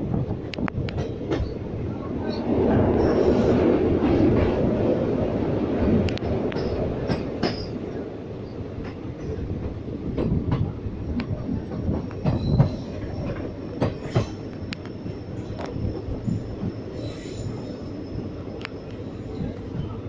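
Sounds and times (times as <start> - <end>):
train low rumble: 0.0 - 20.0
train wheels clattering over rails: 0.1 - 8.0, 8.7 - 17.9.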